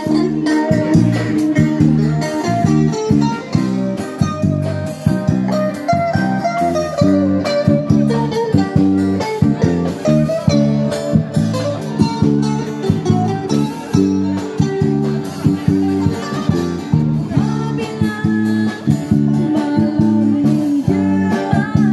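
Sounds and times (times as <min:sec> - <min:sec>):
bossa nova on guitars: 0:00.0 - 0:21.9.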